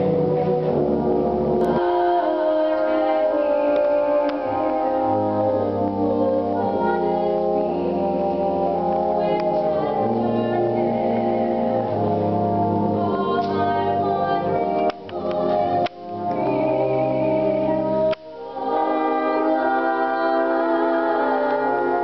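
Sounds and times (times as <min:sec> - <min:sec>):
brass band chords: 0:00.0 - 0:22.0
woman singing: 0:01.7 - 0:22.0.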